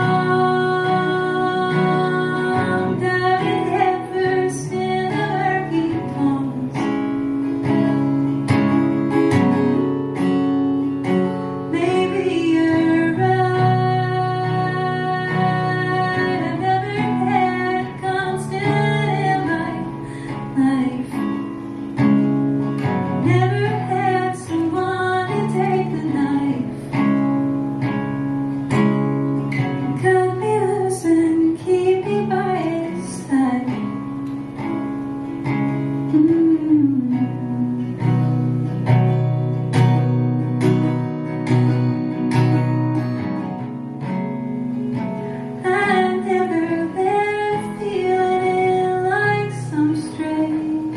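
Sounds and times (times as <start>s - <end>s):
woman singing: 0.0s - 27.9s, 29.4s - 39.1s, 41.4s - 50.9s
acoustic guitar: 0.0s - 50.9s.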